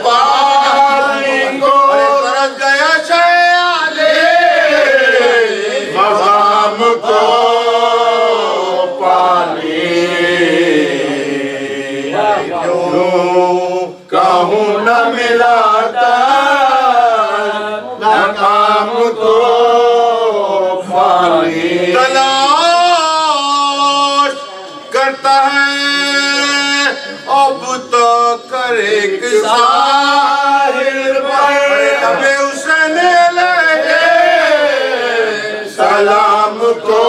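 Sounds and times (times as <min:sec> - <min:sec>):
man chanting lament: 0:00.0 - 0:37.0.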